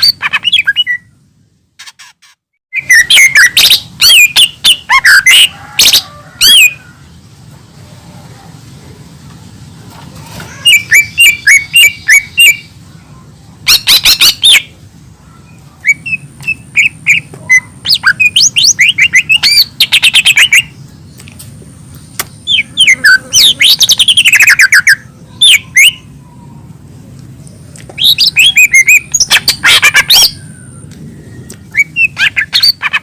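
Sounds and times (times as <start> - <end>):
leafbird singing: 0.0 - 1.2, 2.7 - 33.0.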